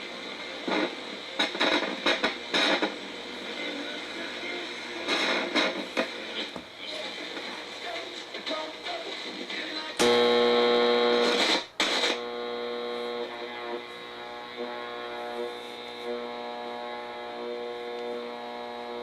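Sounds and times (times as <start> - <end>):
clock radio electric buzz: 0.0 - 19.0.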